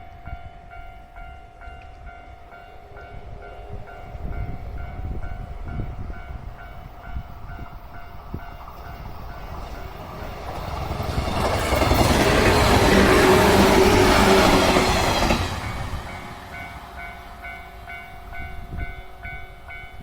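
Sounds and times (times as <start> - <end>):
level crossing warning bell: 0.0 - 20.0
train rumble: 0.0 - 20.0.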